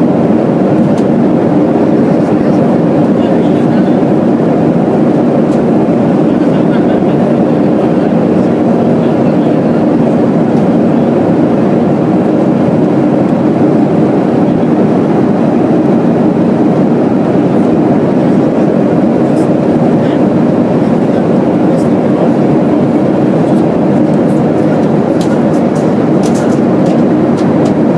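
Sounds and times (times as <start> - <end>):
air rushing over fuselage: 0.0 - 27.9
jet engines in cabin: 0.0 - 27.9
low hum: 0.0 - 27.9.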